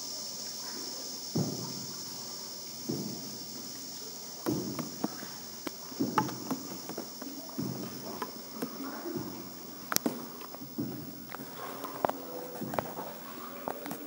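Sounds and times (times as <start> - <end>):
steady high hiss: 0.0 - 14.0
paddle knock and splash: 1.3 - 14.0.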